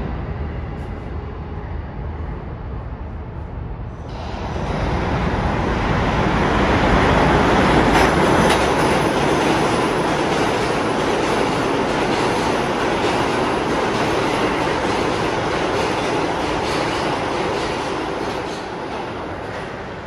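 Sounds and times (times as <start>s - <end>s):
subway train running on track: 0.0s - 20.0s.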